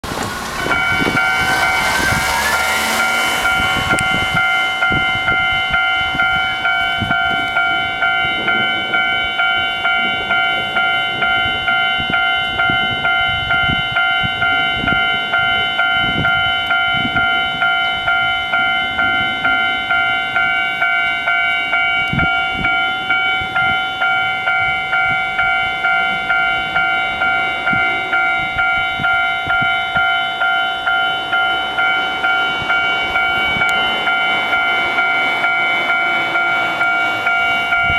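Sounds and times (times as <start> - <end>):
electronic level crossing bell: 0.4 - 37.9.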